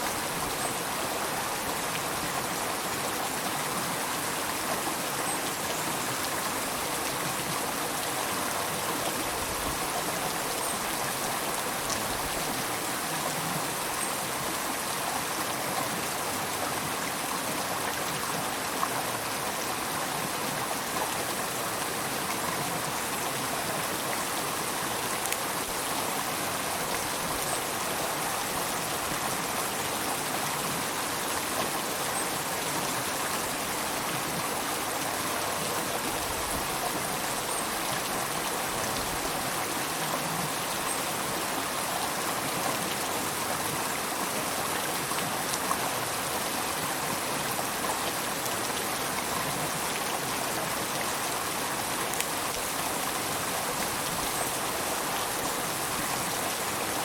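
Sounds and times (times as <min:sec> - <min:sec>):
river water rushing and babbling: 0:00.0 - 0:57.0.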